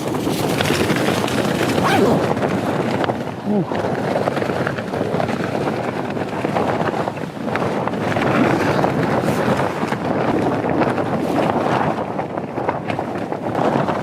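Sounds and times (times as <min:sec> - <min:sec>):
tent fabric flapping: 0:00.0 - 0:14.0
wind buffeting microphone: 0:00.0 - 0:14.0.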